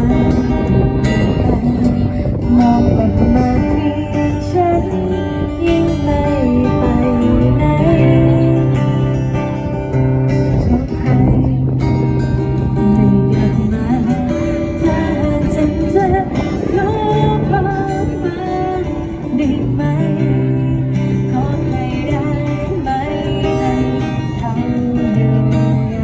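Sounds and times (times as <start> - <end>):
bass line: 0.0 - 21.6
guitar: 0.0 - 26.0.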